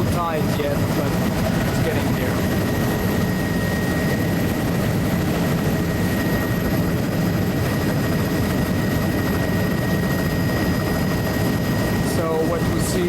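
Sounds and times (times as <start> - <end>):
aircraft engine drone: 0.0 - 13.0
thin steady whine: 0.0 - 13.0.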